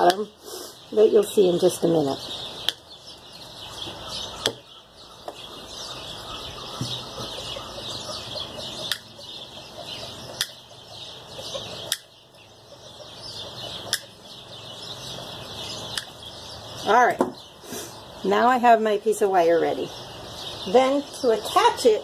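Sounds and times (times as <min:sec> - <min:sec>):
birds chirping: 0:00.0 - 0:22.0
chickens clucking: 0:00.0 - 0:22.0.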